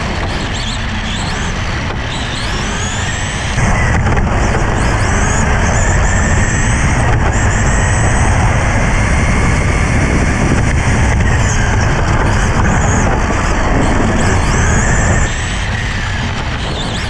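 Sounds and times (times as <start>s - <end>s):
heavy low rumble: 0.0s - 17.0s
rc car motor whine: 0.0s - 17.0s.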